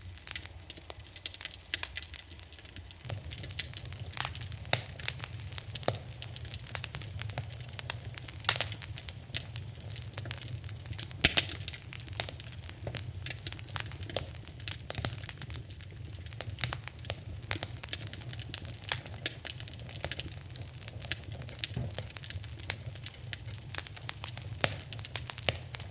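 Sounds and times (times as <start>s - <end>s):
fire crackling in a fireplace: 0.0s - 25.9s.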